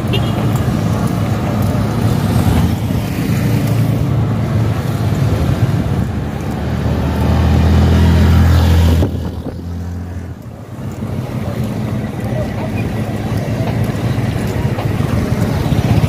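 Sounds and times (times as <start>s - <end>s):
motorcycle tricycle engine passing: 0.0s - 16.0s.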